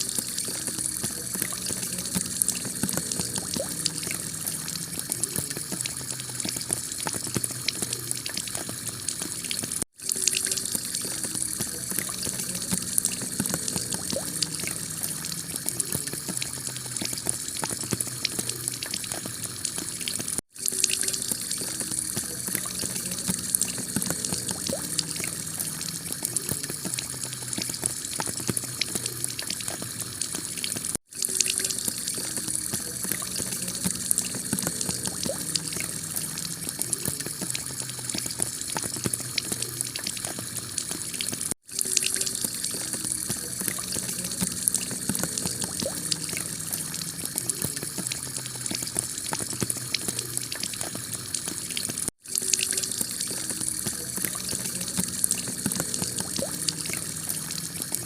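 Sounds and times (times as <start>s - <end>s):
water running off roof: 0.0s - 58.0s.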